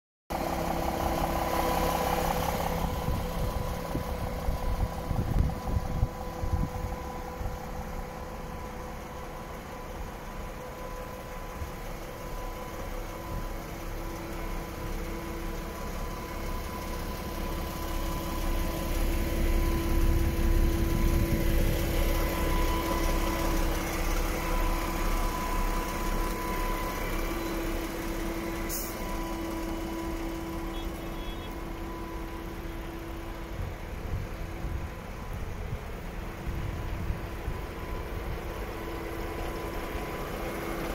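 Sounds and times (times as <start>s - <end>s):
diesel truck engine idling: 0.3s - 40.9s.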